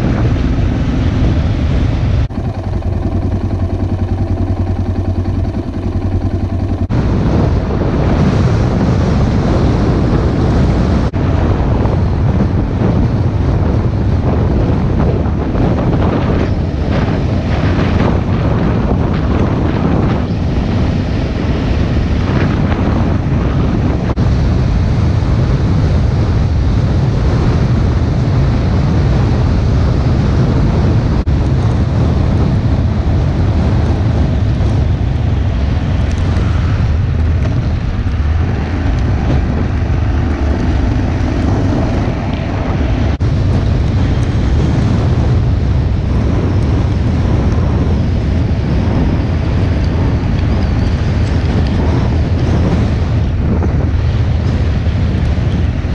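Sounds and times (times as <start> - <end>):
car road and engine rumble: 0.0 - 55.9
wind buffeting microphone: 0.0 - 55.9.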